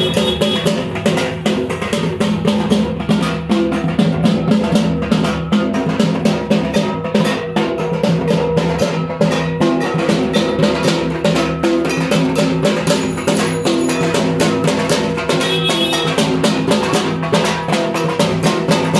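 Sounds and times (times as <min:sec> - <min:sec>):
music with fast drum beat: 0:00.0 - 0:18.9.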